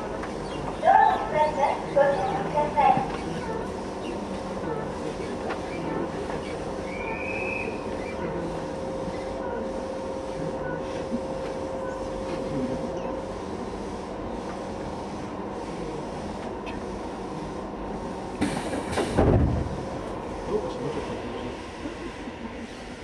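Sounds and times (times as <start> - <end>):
train equipment humming: 0.0 - 23.0.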